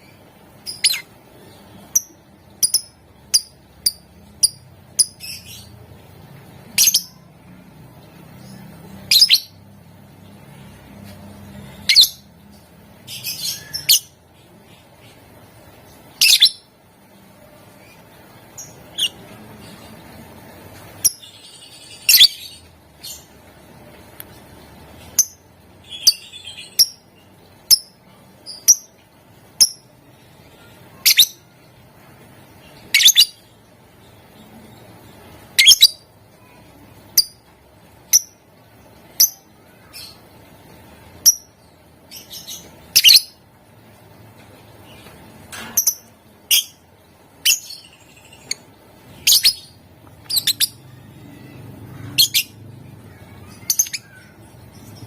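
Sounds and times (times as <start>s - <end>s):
bird chirping high-pitched: 0.0s - 5.8s, 6.6s - 9.8s, 11.4s - 15.3s, 15.9s - 16.8s, 17.6s - 23.4s, 25.0s - 31.7s, 32.6s - 43.4s, 44.9s - 55.0s.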